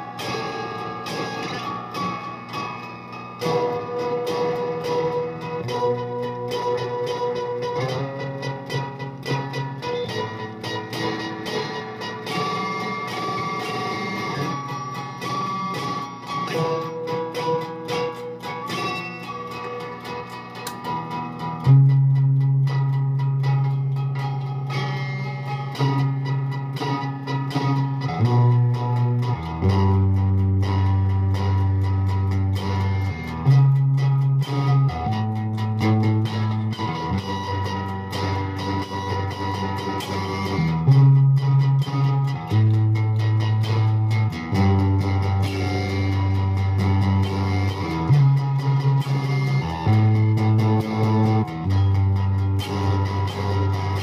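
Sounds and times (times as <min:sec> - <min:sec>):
overdriven electric guitar notes and chords: 0:00.0 - 0:54.0.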